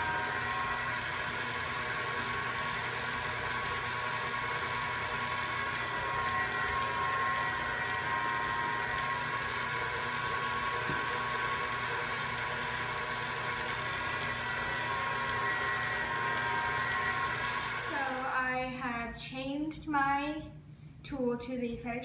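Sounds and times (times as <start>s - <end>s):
pasta machine motor whirring: 0.0s - 18.4s.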